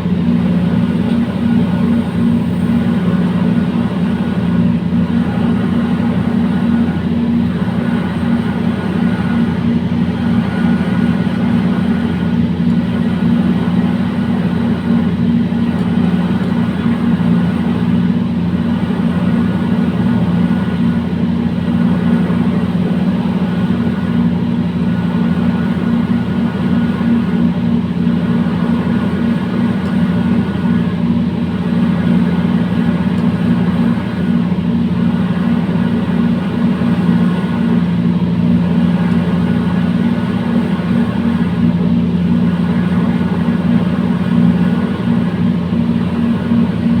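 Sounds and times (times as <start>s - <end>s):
freight train low drone: 0.0s - 47.0s.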